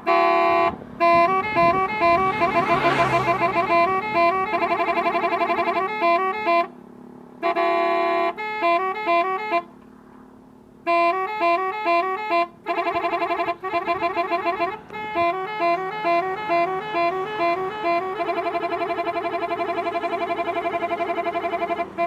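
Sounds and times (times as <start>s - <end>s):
electronic multi-tone horn tune: 0.0s - 6.8s, 7.4s - 9.7s, 10.9s - 22.0s.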